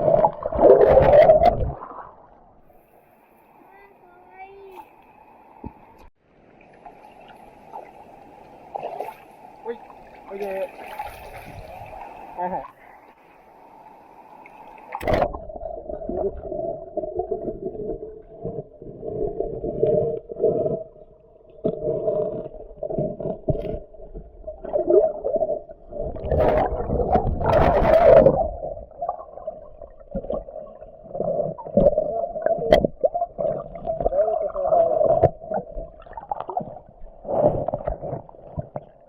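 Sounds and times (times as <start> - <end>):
muffled underwater river water: 0.0 - 39.0.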